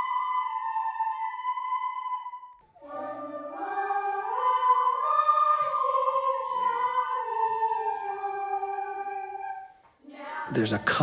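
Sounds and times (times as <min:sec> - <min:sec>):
children playing wooden flutes: 0:00.0 - 0:09.8
voices sliding upward in pitch: 0:00.0 - 0:11.0.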